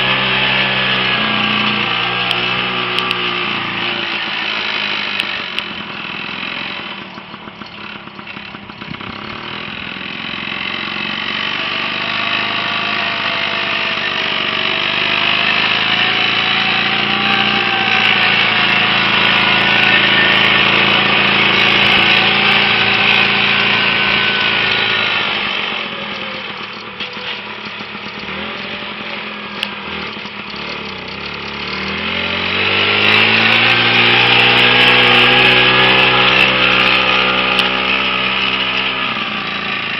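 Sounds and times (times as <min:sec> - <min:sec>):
two-stroke tractor engine revving: 0:00.0 - 0:39.9.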